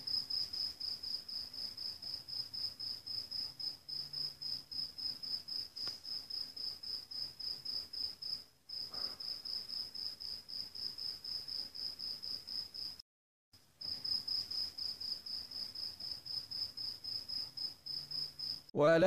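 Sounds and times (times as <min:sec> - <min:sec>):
cricket chirping: 0:00.0 - 0:13.0, 0:13.8 - 0:18.7.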